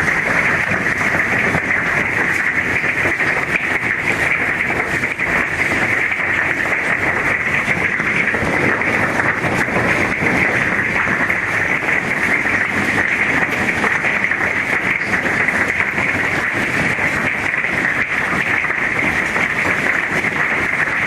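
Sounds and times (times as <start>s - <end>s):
hail pelting down: 0.0s - 21.0s.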